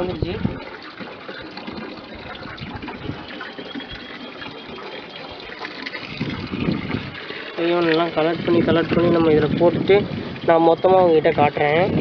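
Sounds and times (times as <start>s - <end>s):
water running through net mesh: 0.0s - 12.0s
water splashing: 0.0s - 12.0s.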